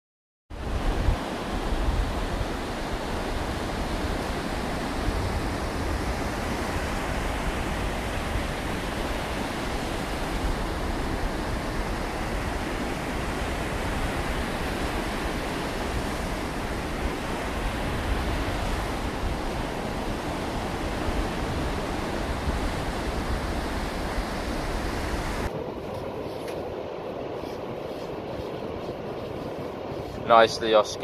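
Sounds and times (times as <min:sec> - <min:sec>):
wind: 0:00.5 - 0:31.0
distant surf: 0:00.6 - 0:31.0
wind buffeting microphone: 0:00.6 - 0:31.0.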